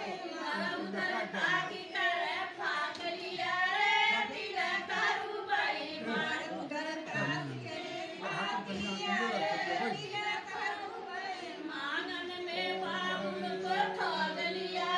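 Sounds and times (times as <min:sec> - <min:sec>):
women singing together: 0:00.0 - 0:14.9.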